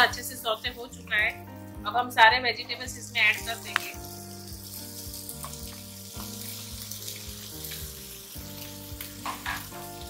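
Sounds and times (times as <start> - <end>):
soft background music: 0.0 - 10.0
vegetables sizzling in hot oil: 0.0 - 10.0.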